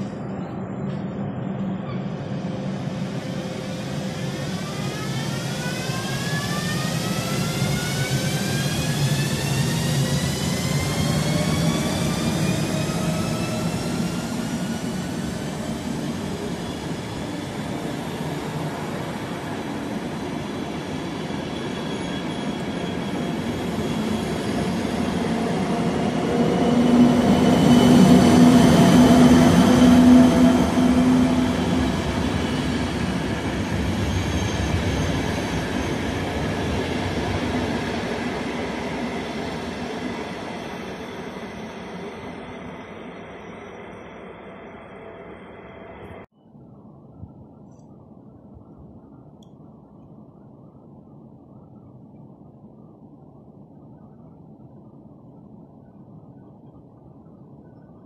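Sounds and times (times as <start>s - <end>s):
electric locomotive whine: 0.0s - 58.0s.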